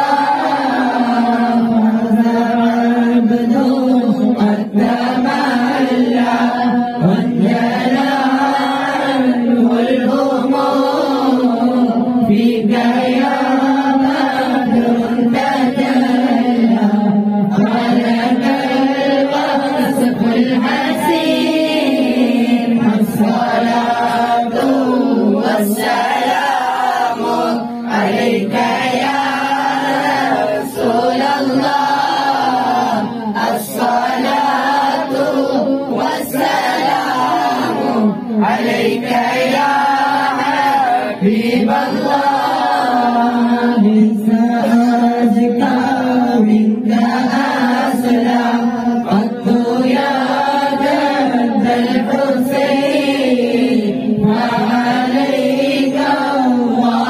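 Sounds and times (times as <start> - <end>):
voices singing in chorus: 0.0 - 57.0
young man chanting into a microphone: 0.0 - 57.0.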